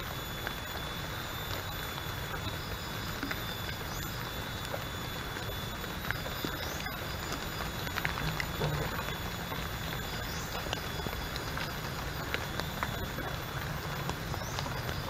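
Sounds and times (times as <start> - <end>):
drops ticking on leaves: 0.0 - 15.0
rain falling on foliage: 0.0 - 15.0.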